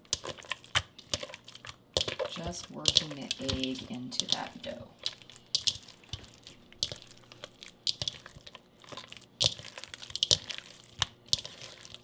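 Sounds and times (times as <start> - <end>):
hands kneading sticky dough: 0.0 - 12.0.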